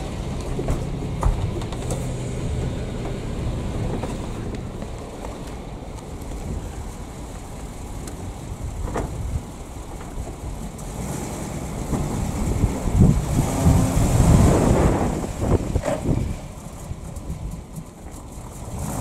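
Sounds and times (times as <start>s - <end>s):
bus engine driving past: 0.0s - 17.5s
road noise: 0.0s - 19.0s
wind buffeting microphone: 0.0s - 19.0s.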